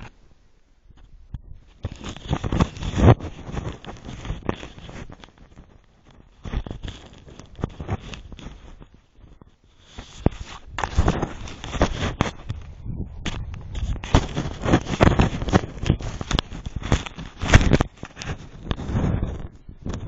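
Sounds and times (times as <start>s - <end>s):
footsteps crunching on snow: 1.7s - 19.5s.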